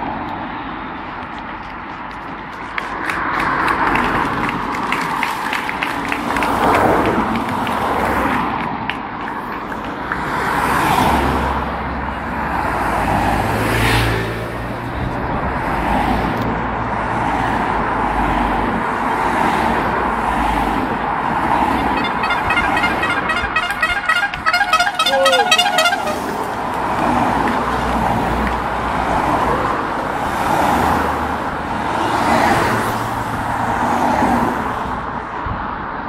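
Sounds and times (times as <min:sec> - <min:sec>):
vehicles passing close by: 0:00.0 - 0:36.0.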